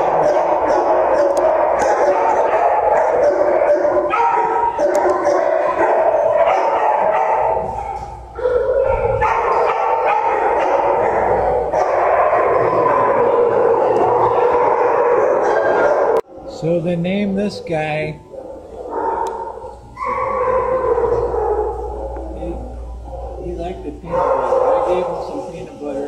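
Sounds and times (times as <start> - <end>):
dogs barking and howling: 0.0 - 16.8, 18.2 - 26.0.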